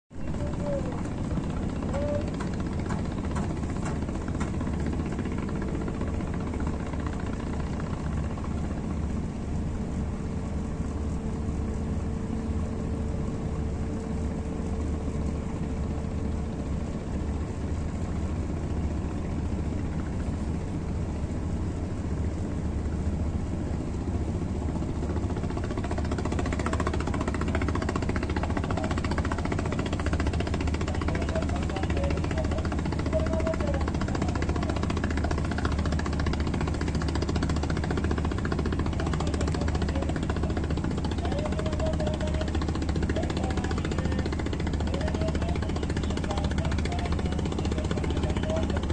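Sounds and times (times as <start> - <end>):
diesel engine low rumble: 0.1 - 48.9.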